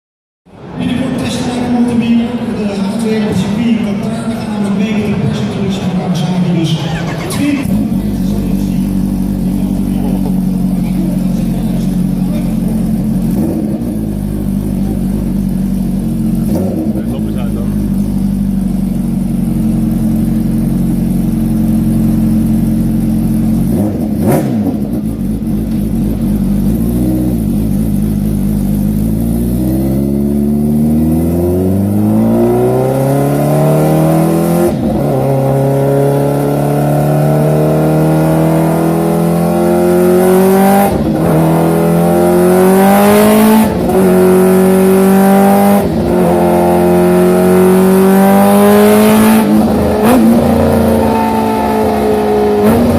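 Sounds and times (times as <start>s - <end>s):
motorcycle engine accelerating: 6.8s - 52.9s.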